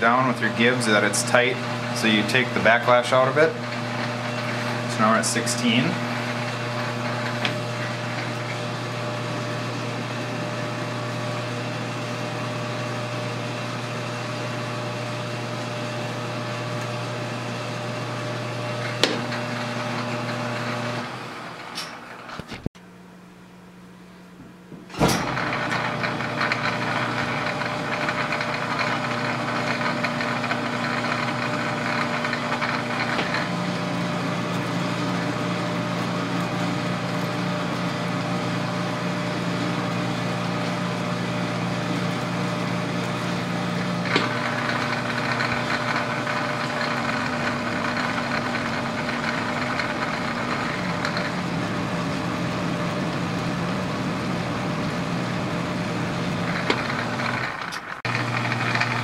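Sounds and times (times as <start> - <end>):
lathe motor and gear drone: 0.0 - 22.7, 24.9 - 59.0.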